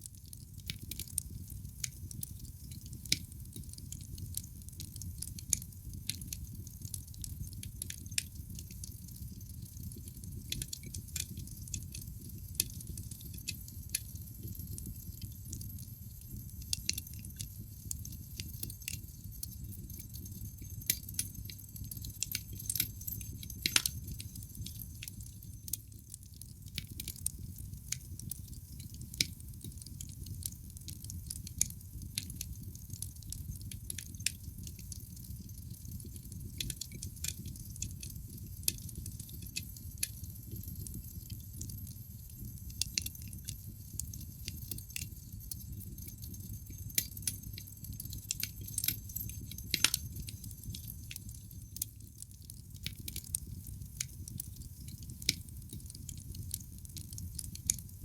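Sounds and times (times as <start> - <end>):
low steady fire rumble: 0.0 - 58.0
wood fire crackling and popping: 0.0 - 58.0.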